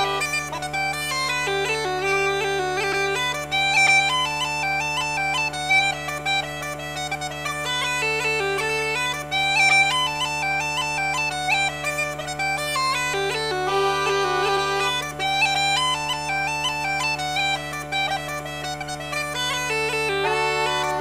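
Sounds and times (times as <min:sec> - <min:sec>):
fast melody over drone: 0:00.0 - 0:21.0.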